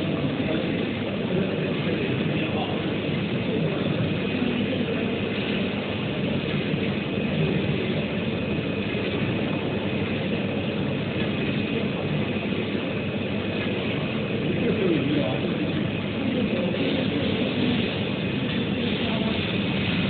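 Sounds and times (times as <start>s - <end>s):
printer mechanical whirr: 0.0s - 20.0s.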